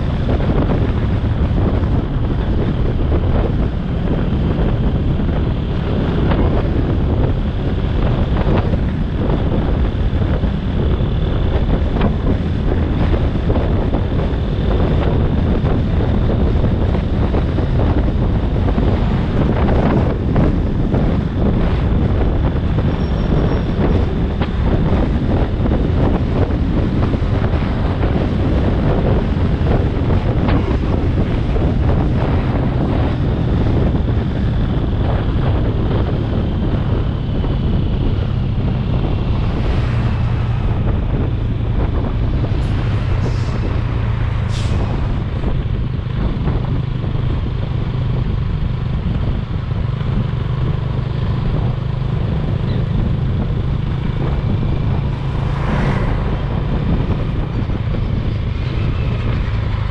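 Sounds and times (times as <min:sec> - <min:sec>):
motorcycle engine running: 0:00.0 - 0:44.5, 0:45.2 - 0:59.9
wind and road noise: 0:00.0 - 0:59.9.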